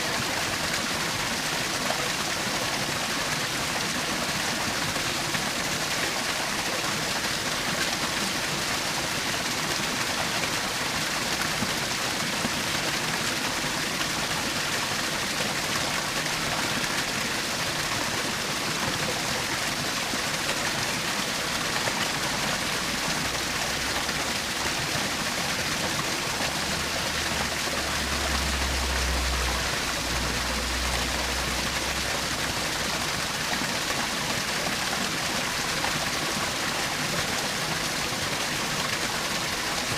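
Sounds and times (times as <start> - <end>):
waterfall splashing and rushing: 0.0 - 39.9.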